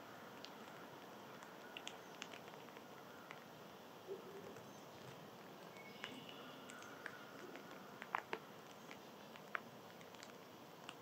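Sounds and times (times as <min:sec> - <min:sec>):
faint steady hiss: 0:00.0 - 0:11.0
clicks of animals feeding: 0:00.2 - 0:11.0.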